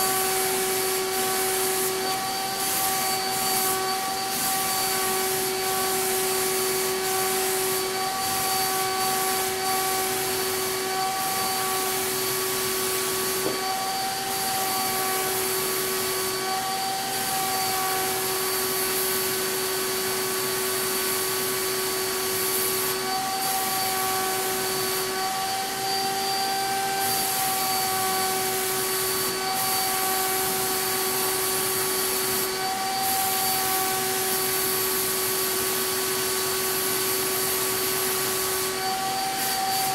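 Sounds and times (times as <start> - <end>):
paint sprayer turbine whine: 0.0 - 39.9.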